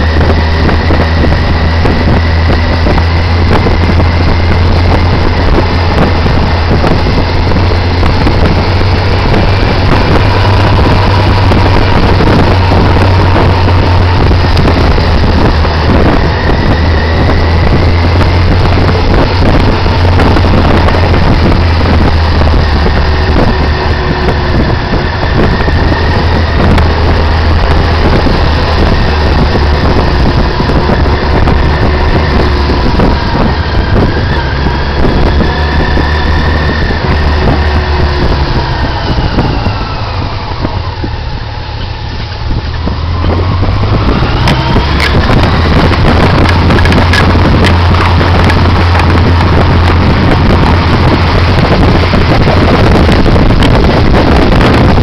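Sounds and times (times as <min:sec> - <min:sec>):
motorcycle engine running: 0:00.0 - 0:55.0
rush of riding noise: 0:00.0 - 0:55.0.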